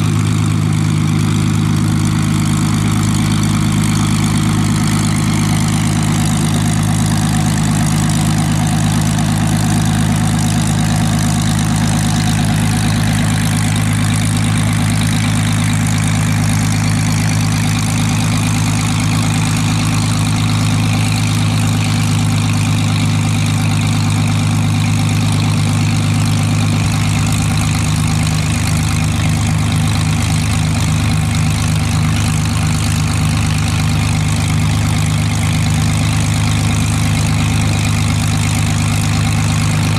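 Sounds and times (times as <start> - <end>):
aircraft engine idling: 0.0 - 39.9.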